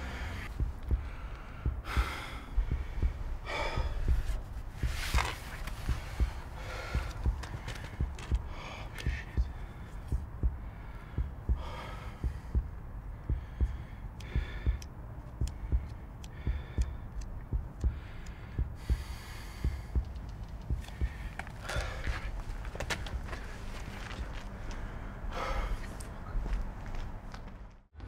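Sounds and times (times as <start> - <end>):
dull low thumps: 0.0 - 24.3
man breathing heavily and sighing: 0.0 - 26.6.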